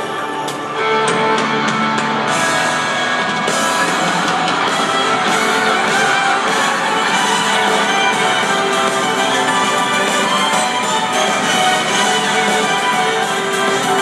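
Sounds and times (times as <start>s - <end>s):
band music over loudspeakers: 0.0s - 14.0s.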